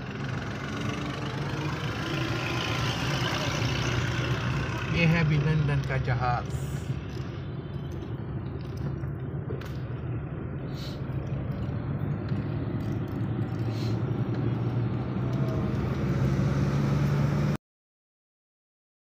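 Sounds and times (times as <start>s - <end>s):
car engine and road noise: 0.0s - 17.6s.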